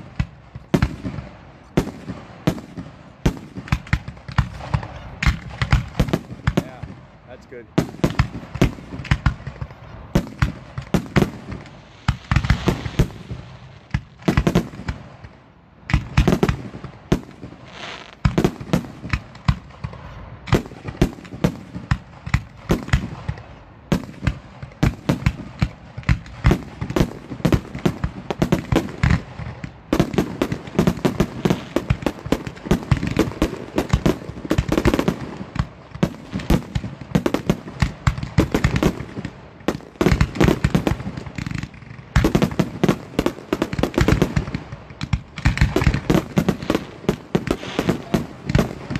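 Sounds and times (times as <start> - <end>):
fireworks launching and bursting: 0.0 - 48.9.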